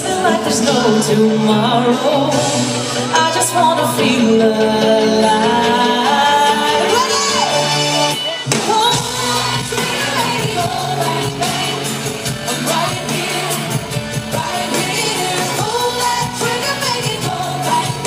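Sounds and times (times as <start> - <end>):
live pop band music: 0.0 - 18.0.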